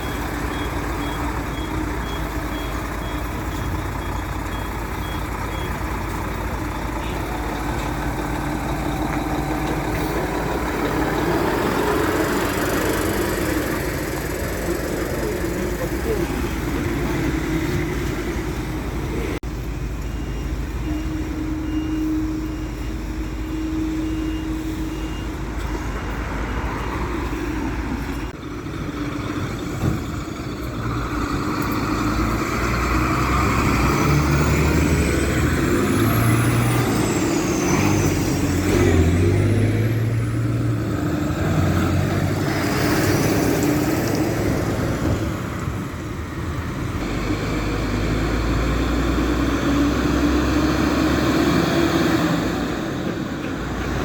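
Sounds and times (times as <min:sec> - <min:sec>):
fire truck diesel engines driving past: 0:00.0 - 0:54.0.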